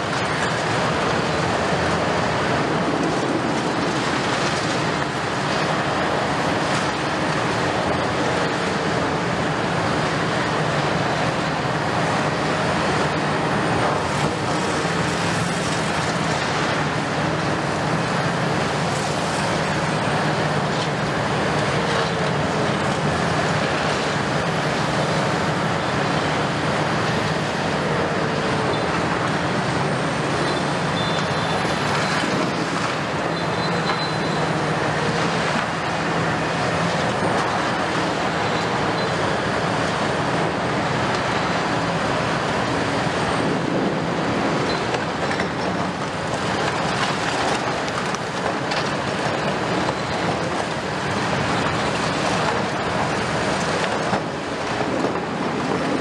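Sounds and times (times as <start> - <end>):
diesel engines under load: 0.0 - 56.0.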